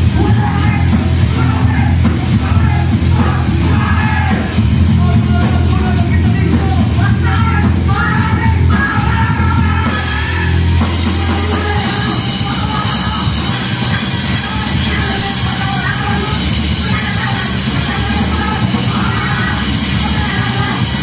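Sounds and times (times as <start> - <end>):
hardcore punk band playing: 0.0 - 21.0
shouted vocals: 0.0 - 21.0.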